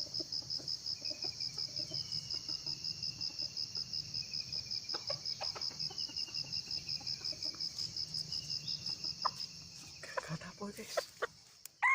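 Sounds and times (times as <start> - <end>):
insect chirping: 0.0 - 11.9.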